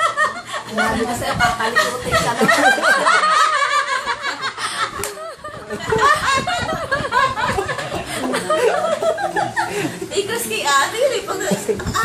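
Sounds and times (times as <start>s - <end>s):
women laughing: 0.0s - 10.2s.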